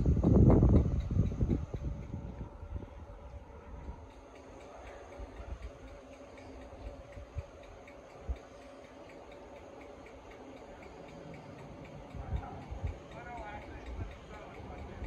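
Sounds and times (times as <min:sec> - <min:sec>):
faint regular ticking: 0:00.0 - 0:15.0
steady low hum: 0:00.0 - 0:15.0.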